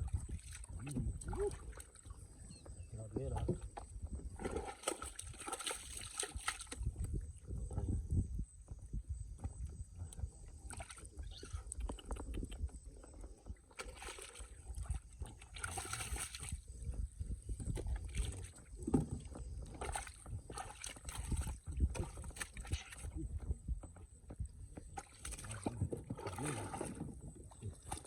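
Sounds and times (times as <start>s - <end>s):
water sloshing and splashing: 0.0s - 7.8s, 10.4s - 24.0s, 24.7s - 28.0s.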